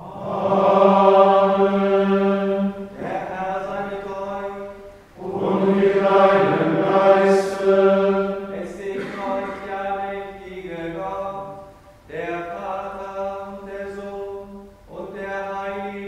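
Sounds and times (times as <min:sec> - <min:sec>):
plainchant on one reciting note: 0:00.0 - 0:16.0.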